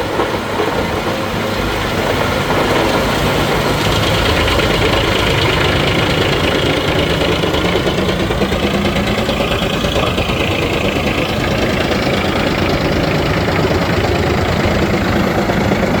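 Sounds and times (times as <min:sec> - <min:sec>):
wood chipper running: 0:00.0 - 0:16.0.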